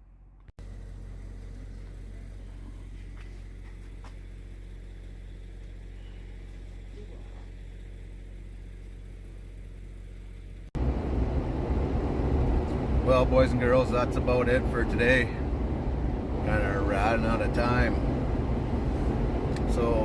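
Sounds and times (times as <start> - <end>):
steady low hum: 0.0 - 20.0
vehicle running: 0.0 - 20.0.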